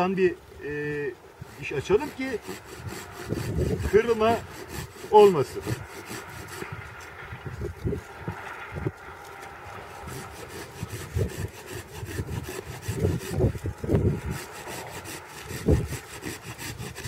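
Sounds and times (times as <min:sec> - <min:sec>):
hand saw cutting branch: 0:00.8 - 0:08.2, 0:09.3 - 0:17.0.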